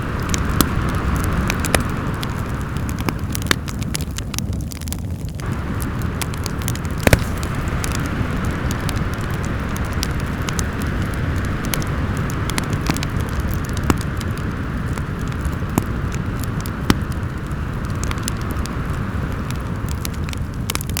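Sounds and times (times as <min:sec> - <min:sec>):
fireplace crackling and popping: 0:00.0 - 0:21.0
howling wind: 0:00.0 - 0:21.0.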